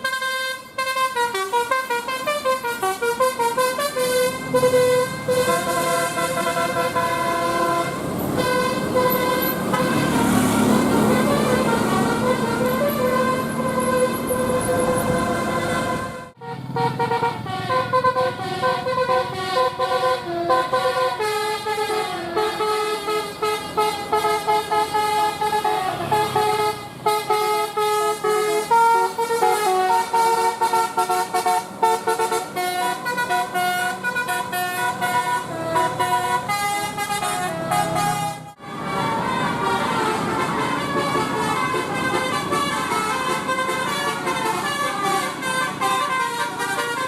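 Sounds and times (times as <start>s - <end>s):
bus horn playing a melody: 0.0s - 47.0s.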